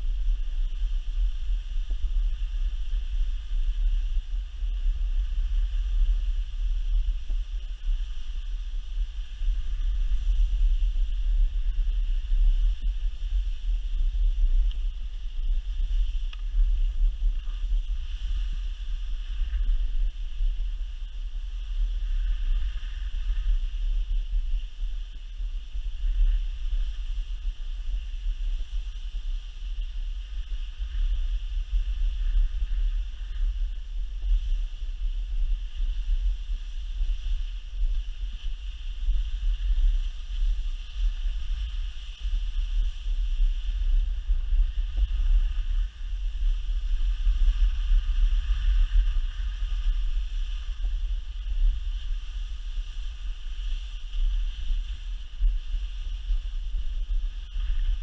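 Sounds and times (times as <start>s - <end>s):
skis hissing over snow: 0.0s - 58.0s
wind buffeting microphone: 0.0s - 58.0s.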